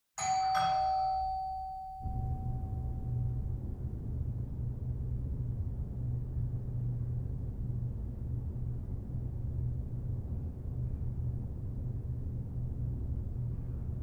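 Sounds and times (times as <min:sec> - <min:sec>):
deep low rumble: 0:01.0 - 0:14.0.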